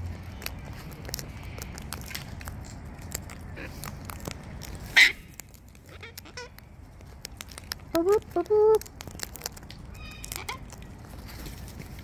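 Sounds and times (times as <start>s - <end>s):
beaks cracking seed: 0.0s - 12.0s.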